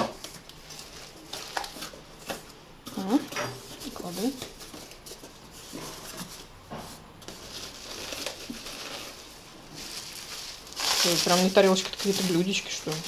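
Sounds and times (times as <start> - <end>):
cardboard and bubble wrap rustling: 0.0 - 13.0.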